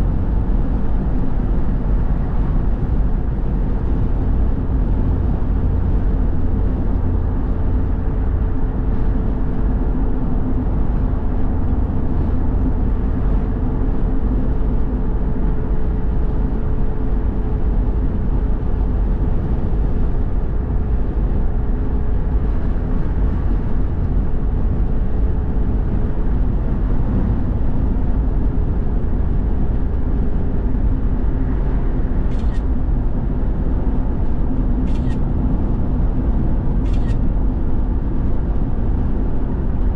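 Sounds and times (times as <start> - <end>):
car engine and road rumble: 0.0 - 39.9
faint constant hum: 0.0 - 39.9.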